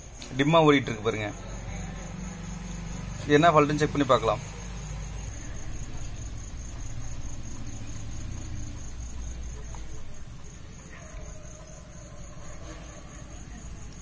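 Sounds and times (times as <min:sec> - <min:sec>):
high-pitched insect-like chirping: 0:00.0 - 0:14.0
steady low hum: 0:00.0 - 0:14.0.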